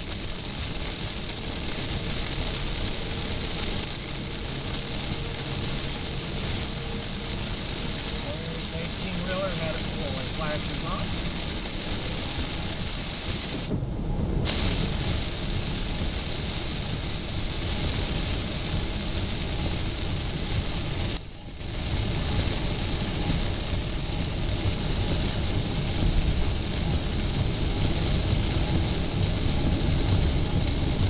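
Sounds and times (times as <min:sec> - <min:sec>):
heavy rain on a car: 0:00.0 - 0:31.0
tyres on wet road: 0:00.0 - 0:31.0.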